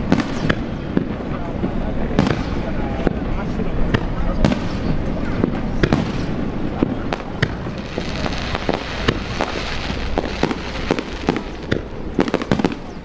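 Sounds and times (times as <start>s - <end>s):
crackling hiss: 0.0s - 13.0s
fireworks cracks and booms: 0.0s - 13.0s.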